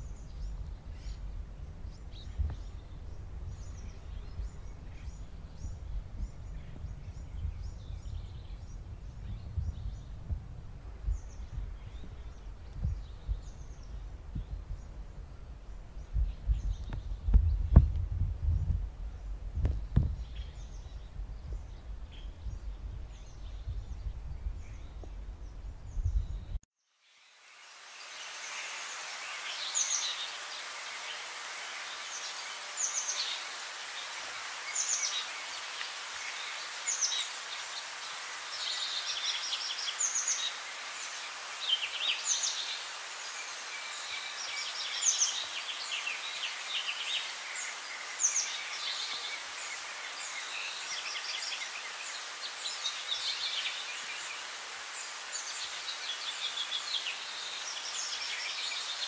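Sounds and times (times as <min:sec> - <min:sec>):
wild birds singing: 0:00.0 - 0:26.6, 0:28.0 - 0:59.0
steady background hiss: 0:00.0 - 0:59.0.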